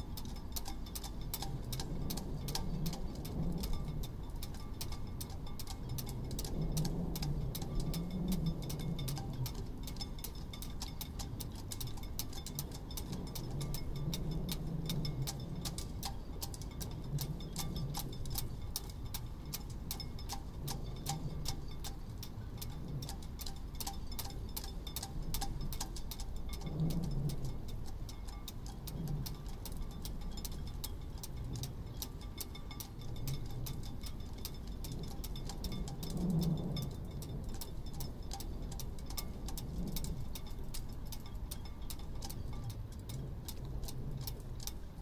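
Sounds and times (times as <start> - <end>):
low wind rumble: 0.0 - 45.0
rigging ticking against masts: 0.0 - 45.0.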